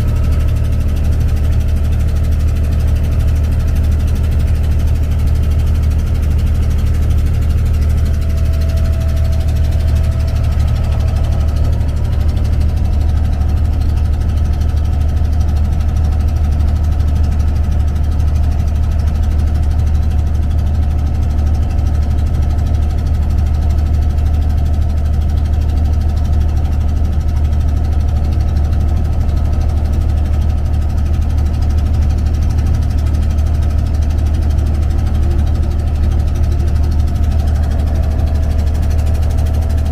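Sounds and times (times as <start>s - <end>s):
ferry diesel engine droning: 0.0s - 39.9s.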